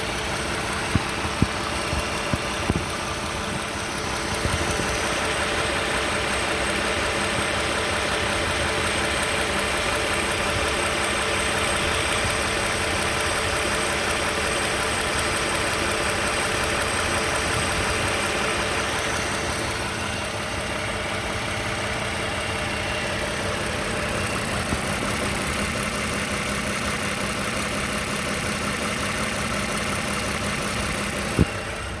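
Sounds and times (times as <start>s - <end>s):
car engine rattling: 0.0s - 32.0s.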